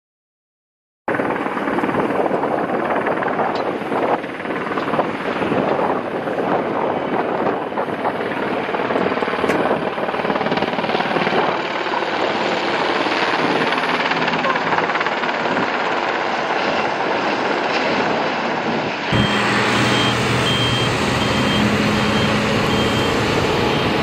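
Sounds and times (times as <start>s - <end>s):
helicopter engine and rotors: 1.1s - 24.0s.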